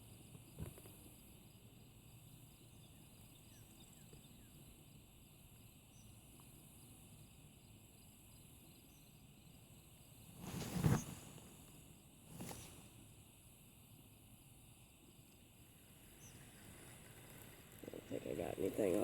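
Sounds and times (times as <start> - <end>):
faint chirps: 0.0 - 13.1, 14.1 - 19.0
insect chorus: 0.0 - 19.0.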